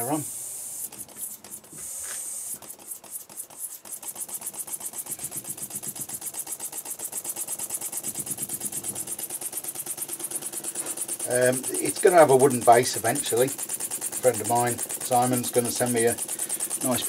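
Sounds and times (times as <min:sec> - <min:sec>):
air hissing: 0:00.0 - 0:17.0
model steam engine exhaust puffs: 0:00.0 - 0:17.0.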